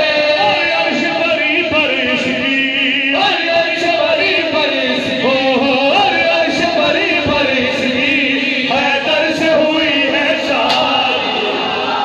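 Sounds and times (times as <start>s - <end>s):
men singing in unison: 0.0s - 12.0s.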